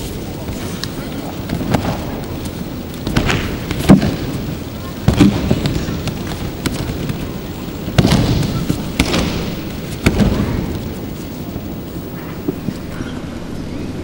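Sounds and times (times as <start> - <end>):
bodies thudding on mats: 0.0 - 12.9.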